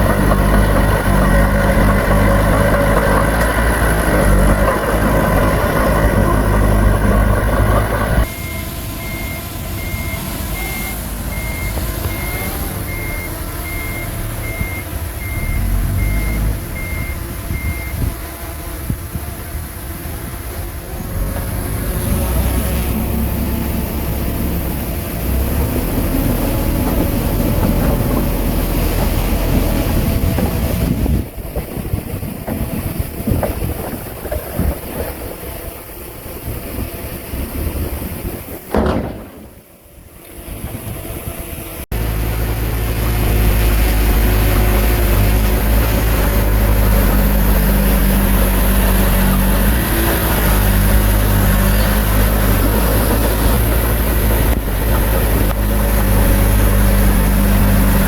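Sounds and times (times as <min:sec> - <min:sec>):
diesel engine of heavy machinery: 0:00.0 - 0:58.0
steady engine hum: 0:00.0 - 0:58.0.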